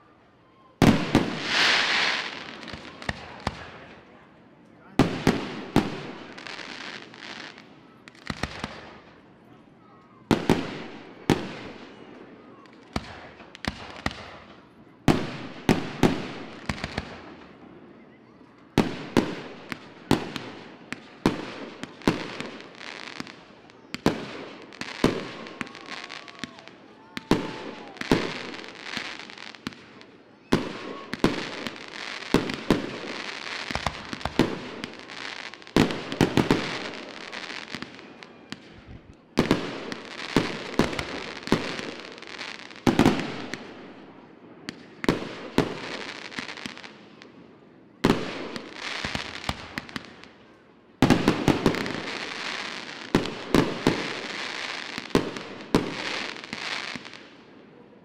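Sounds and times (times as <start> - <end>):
fireworks bangs with echo: 0.8 - 4.0, 4.9 - 9.2, 9.9 - 47.4, 48.0 - 50.4, 51.0 - 57.5
fireworks crackling: 0.8 - 4.1, 4.8 - 9.3, 10.2 - 17.8, 18.6 - 57.6.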